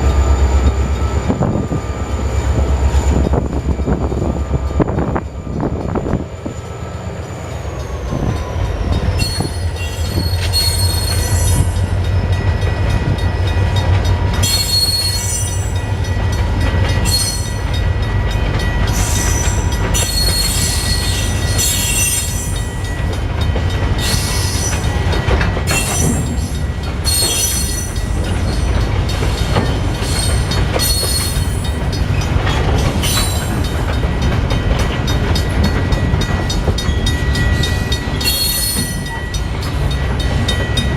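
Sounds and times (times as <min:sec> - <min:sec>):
freight train rumbling: 0:00.0 - 0:40.9
train wheel squeal: 0:00.0 - 0:40.9.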